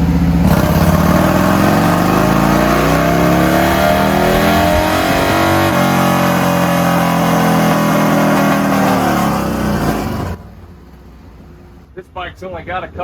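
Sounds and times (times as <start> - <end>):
motorcycle engine winding down: 0.0 - 10.5.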